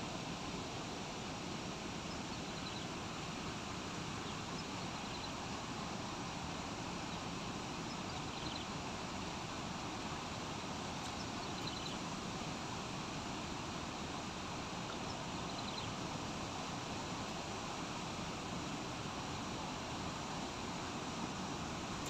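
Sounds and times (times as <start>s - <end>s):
low outdoor background noise: 0.0s - 22.0s.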